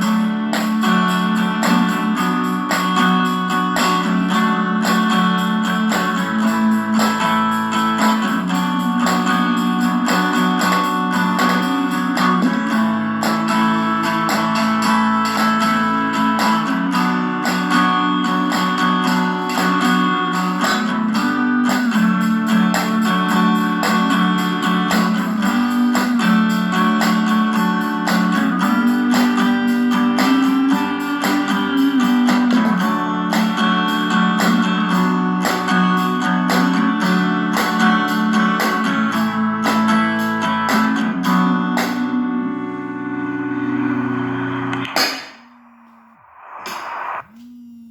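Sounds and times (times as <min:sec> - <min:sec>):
percussion on jars and tools: 0:00.0 - 0:41.0
acoustic guitar strumming: 0:00.0 - 0:45.6.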